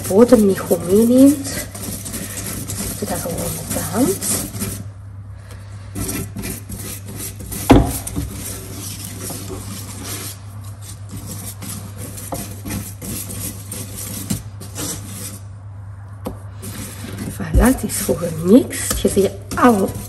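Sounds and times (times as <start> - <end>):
whisk scraping batter in bowl: 0.0 - 5.0, 5.9 - 15.5, 16.5 - 20.0.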